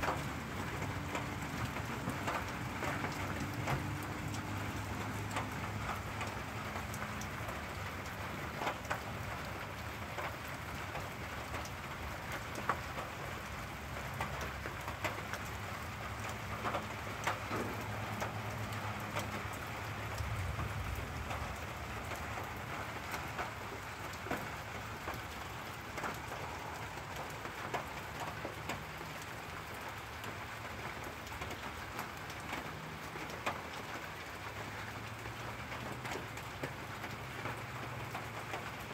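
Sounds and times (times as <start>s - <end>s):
sharp drips ticking: 0.0s - 38.9s
steady rain: 0.0s - 38.9s.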